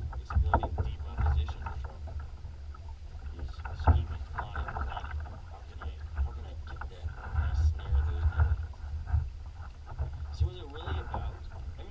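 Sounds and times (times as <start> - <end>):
waves slapping against a hull: 0.0 - 11.9
wind rumble on microphone: 0.0 - 11.9.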